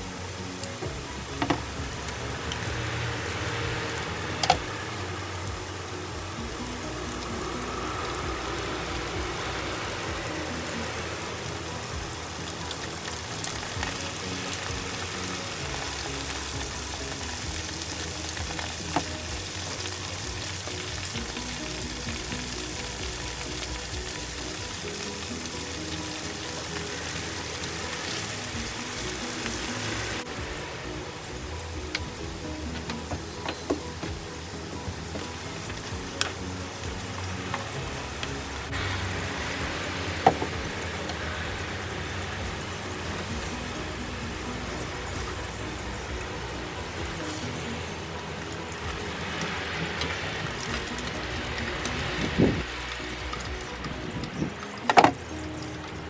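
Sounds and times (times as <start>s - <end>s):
food deep-frying in hot oil: 0.0s - 56.0s.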